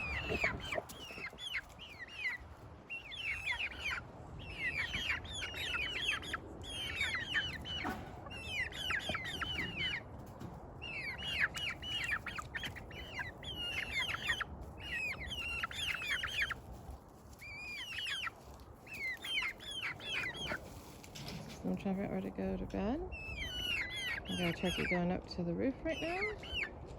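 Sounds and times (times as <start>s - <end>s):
young poultry peeping: 0.0s - 26.9s.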